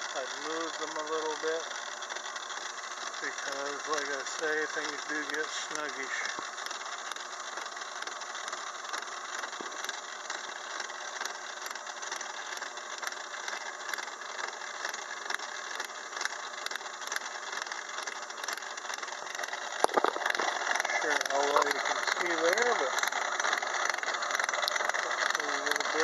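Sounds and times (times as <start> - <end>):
faint regular ticks: 0.0 - 26.0
lathe gear cutter whirring: 0.0 - 26.0.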